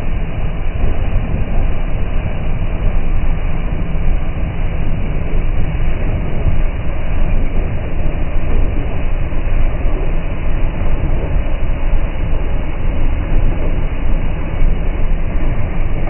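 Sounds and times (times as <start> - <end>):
snowblower running under load: 0.0 - 16.0.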